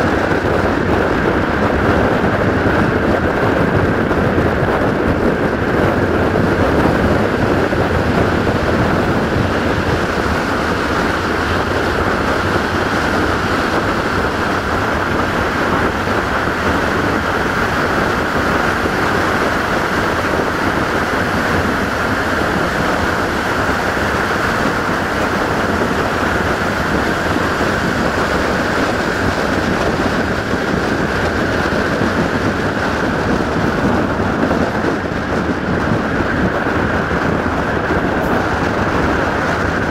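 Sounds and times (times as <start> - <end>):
train wheels rumbling on rails: 0.0 - 39.9
wind rushing over microphone: 0.0 - 39.9.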